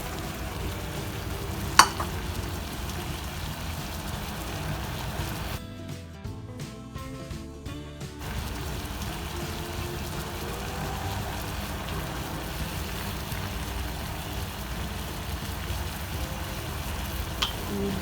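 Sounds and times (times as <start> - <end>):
pot of water boiling: 0.0 - 5.6, 8.2 - 18.0.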